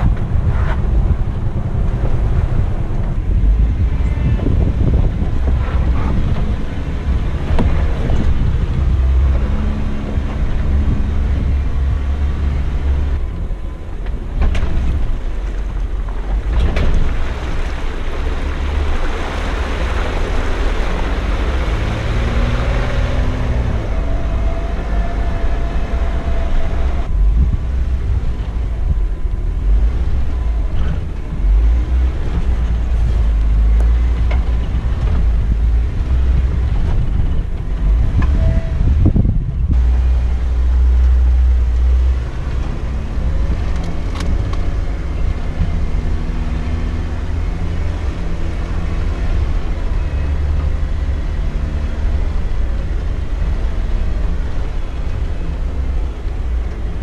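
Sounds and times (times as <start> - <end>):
off-road vehicle engine under load: 0.0 - 57.0
wind rumbling on microphone: 0.0 - 57.0.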